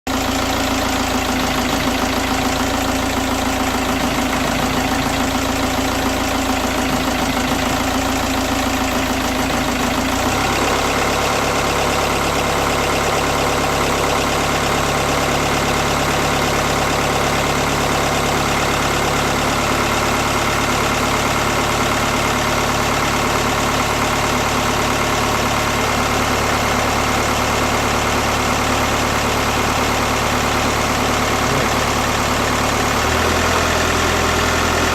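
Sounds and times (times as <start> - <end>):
diesel engine idling roughly: 0.1 - 34.9.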